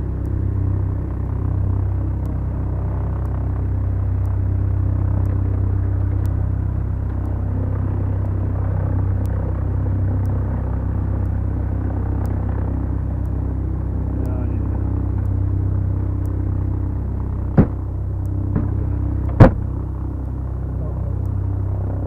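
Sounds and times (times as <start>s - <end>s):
twin propeller engines droning: 0.0s - 22.0s.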